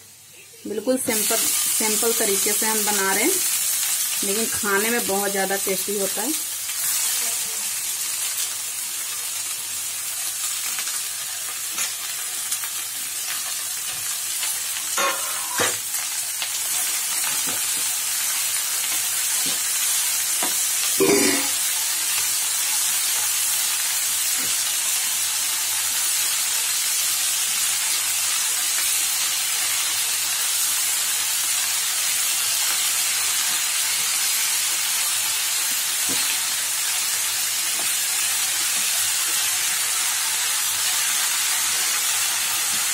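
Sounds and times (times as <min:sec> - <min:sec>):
greens sizzling in hot oil: 0:00.0 - 0:42.9.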